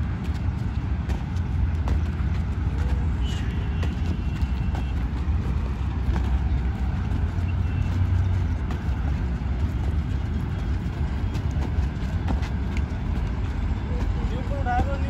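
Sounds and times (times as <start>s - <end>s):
shoes landing on dirt: 0.0s - 14.2s
steady low rumble: 0.0s - 15.0s.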